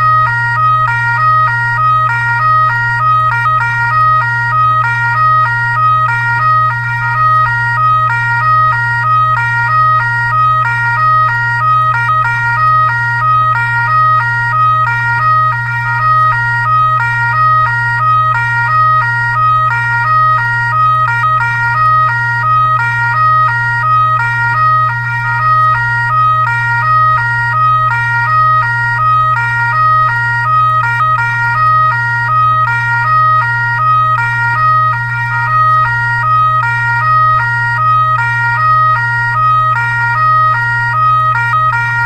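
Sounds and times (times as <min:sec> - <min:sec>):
two-tone fire truck siren: 0:00.0 - 0:42.0.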